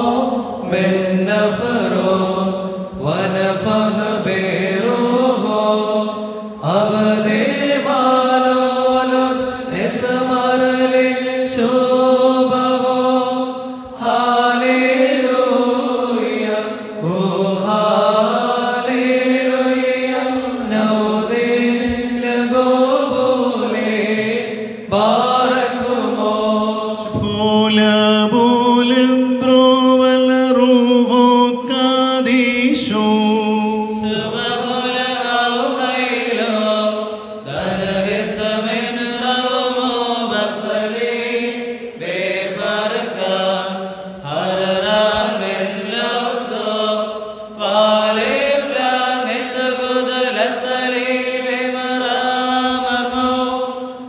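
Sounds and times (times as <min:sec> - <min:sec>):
liturgical chant: 0:00.0 - 0:54.0.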